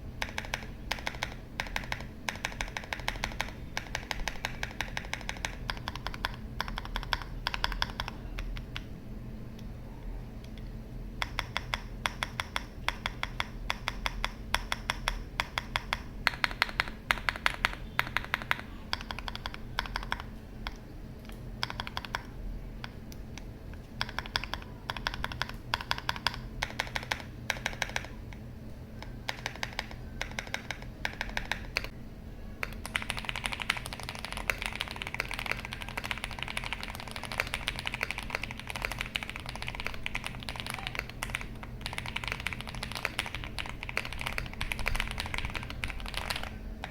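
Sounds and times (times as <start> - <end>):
loose keycaps clacking: 0.2 - 8.9, 11.2 - 28.4, 29.0 - 31.9, 32.6 - 46.9
mechanical keyboard typing: 0.2 - 8.9, 11.2 - 28.4, 29.0 - 31.9, 32.6 - 46.9.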